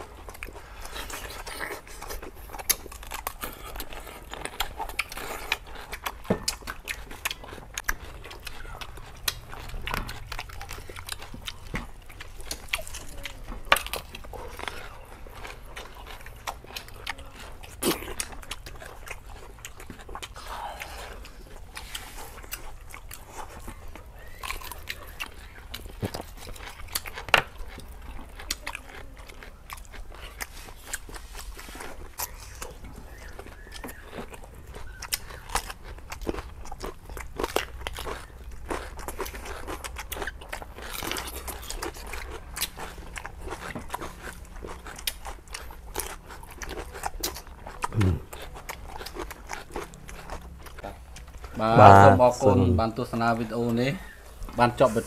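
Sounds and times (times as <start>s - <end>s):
chewing and lip smacking: 0.0s - 55.0s.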